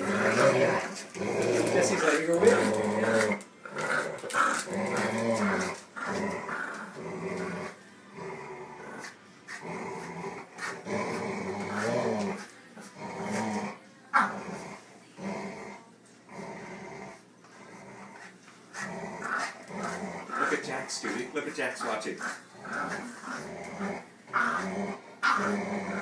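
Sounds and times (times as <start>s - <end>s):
dogs play growling: 0.0s - 26.0s.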